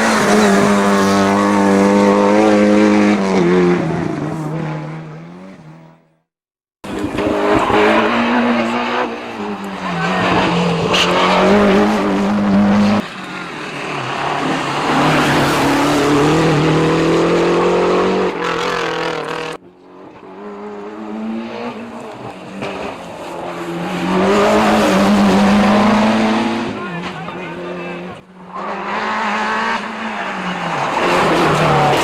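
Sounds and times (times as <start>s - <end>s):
rally car engines revving: 0.0s - 6.2s, 6.8s - 32.0s.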